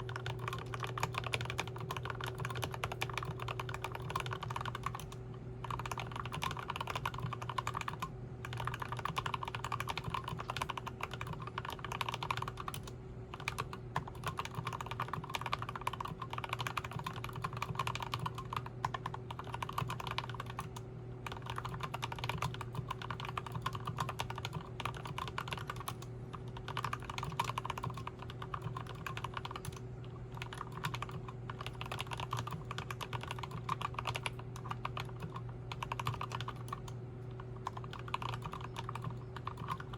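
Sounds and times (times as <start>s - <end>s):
mechanical keyboard typing: 0.0s - 39.9s
steady low hum: 0.0s - 39.9s.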